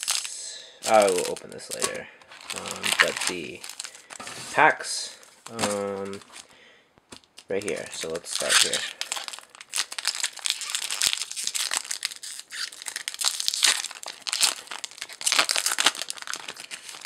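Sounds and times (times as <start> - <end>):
foil wrapper crinkling and tearing: 0.0 - 4.5, 5.1 - 6.5, 7.1 - 17.0.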